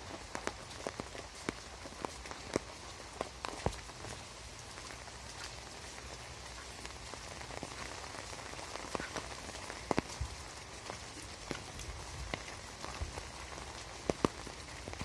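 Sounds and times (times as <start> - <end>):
raindrops tapping: 0.0 - 15.0
steady rain hiss: 0.0 - 15.0.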